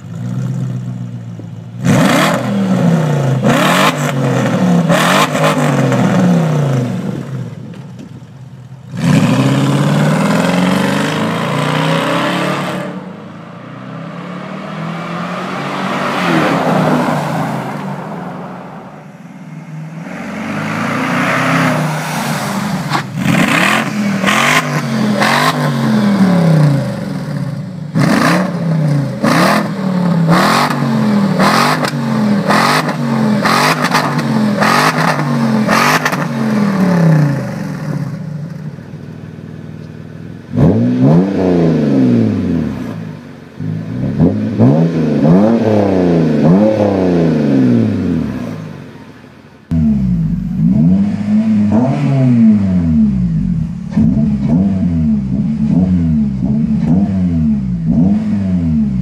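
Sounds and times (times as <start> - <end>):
car engine revving: 1.7 - 7.6, 8.8 - 38.8, 40.5 - 48.6, 49.7 - 59.0.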